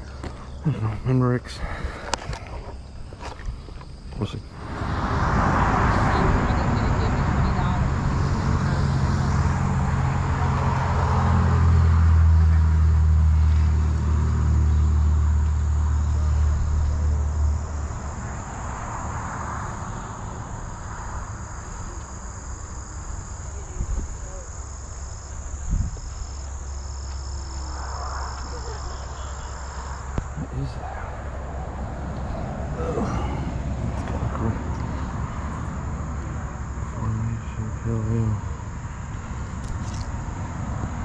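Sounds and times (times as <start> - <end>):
insects trilling: 0.0 - 41.0
low steady hum: 0.0 - 41.0.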